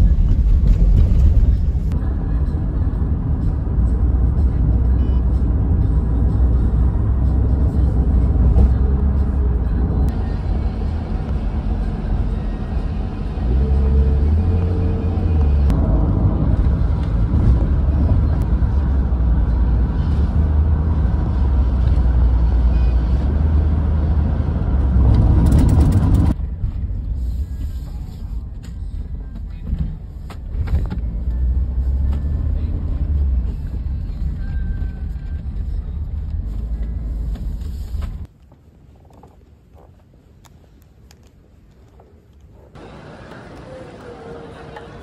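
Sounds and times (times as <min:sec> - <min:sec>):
car road rumble: 0:00.0 - 0:45.0.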